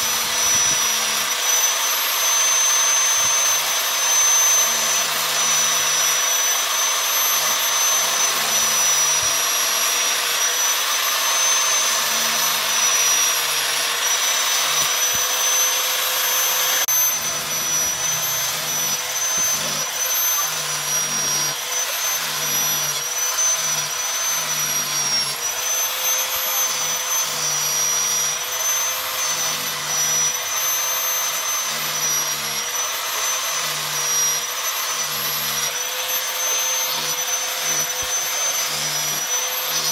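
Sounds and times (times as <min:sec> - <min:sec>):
angle grinder whining: 0:00.0 - 0:39.9.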